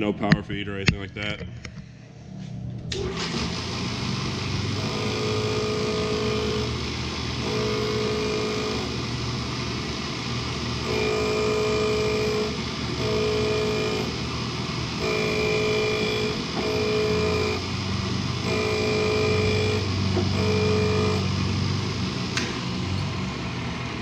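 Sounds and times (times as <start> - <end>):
pitched grinding tone: 2.9 - 24.0
surface grinder humming: 3.0 - 24.0.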